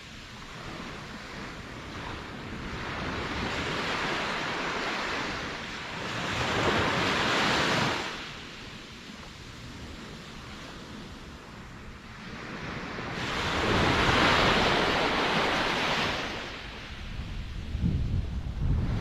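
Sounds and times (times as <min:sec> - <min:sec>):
ocean waves breaking on shore: 0:00.0 - 0:19.0
wind: 0:00.0 - 0:19.0.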